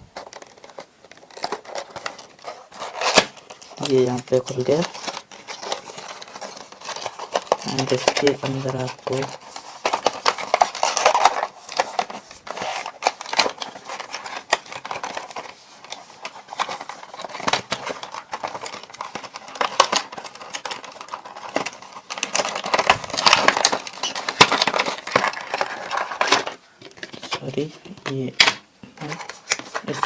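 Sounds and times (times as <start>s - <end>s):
packaging crinkling and rustling: 0.0s - 30.0s.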